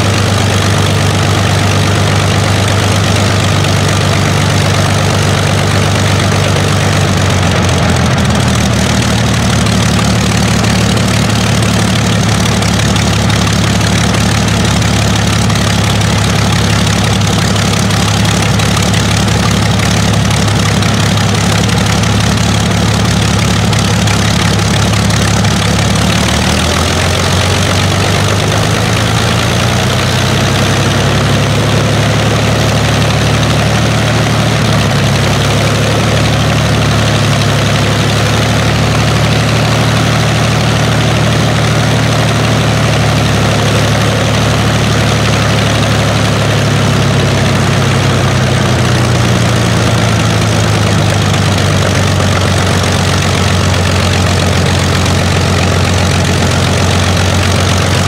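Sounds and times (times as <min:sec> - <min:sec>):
aero engine idling: 0:00.0 - 0:58.0.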